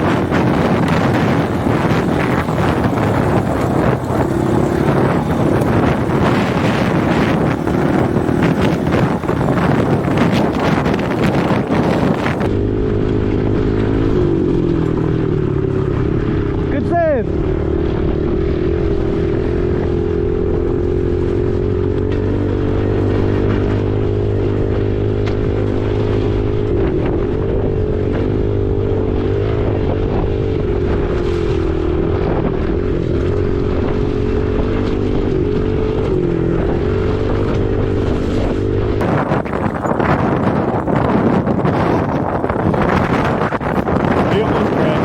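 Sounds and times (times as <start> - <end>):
dirt bike engine: 0.0 - 45.0
wind buffeting microphone: 0.0 - 45.0.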